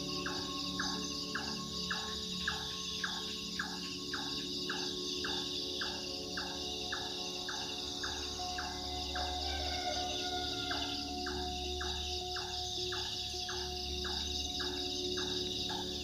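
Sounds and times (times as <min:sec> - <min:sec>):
crickets and insects chirping: 0:00.0 - 0:16.0
night bird calling: 0:00.0 - 0:16.0.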